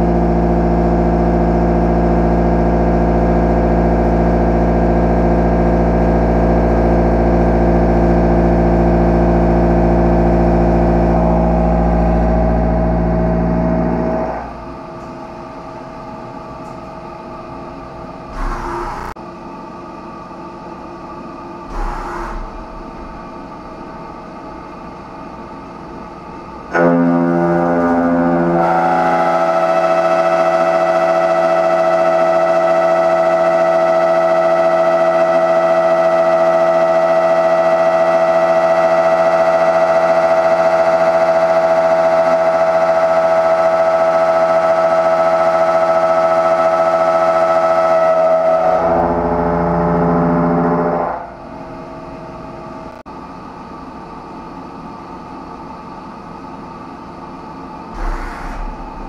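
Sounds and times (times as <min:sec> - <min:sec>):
steady machine noise: 0:00.0 - 0:59.0.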